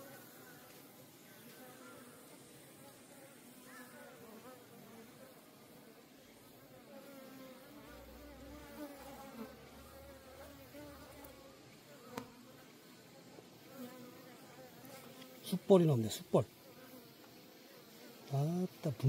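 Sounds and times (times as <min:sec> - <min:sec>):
bees buzzing in flight: 0:00.0 - 0:19.0.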